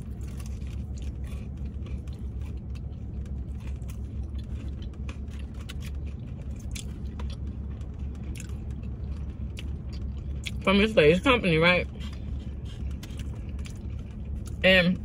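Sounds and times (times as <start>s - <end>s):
person eating crunchy food: 0.0s - 10.6s, 11.8s - 14.6s
car idling rumble: 0.0s - 15.0s.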